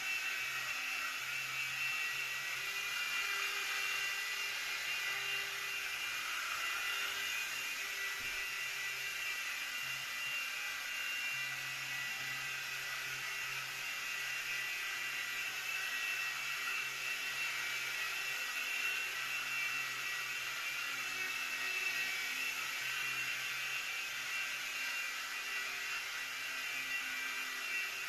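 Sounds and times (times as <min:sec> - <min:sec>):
rc helicopter motor whine: 0:00.0 - 0:28.0.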